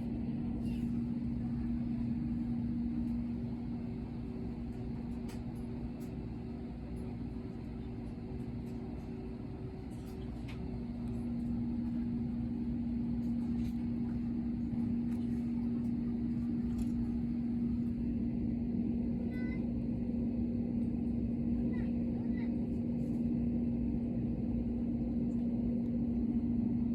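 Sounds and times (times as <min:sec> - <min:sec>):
airliner engine rumble: 0:00.0 - 0:26.9
steady hum: 0:00.0 - 0:26.9.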